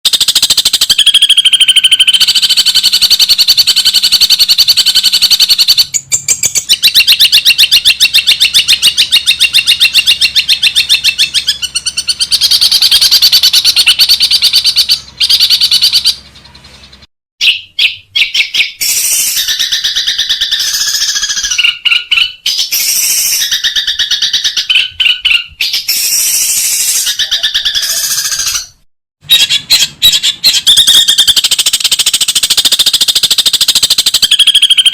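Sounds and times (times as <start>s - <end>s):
shrike rattling calls: 0.1s - 34.9s.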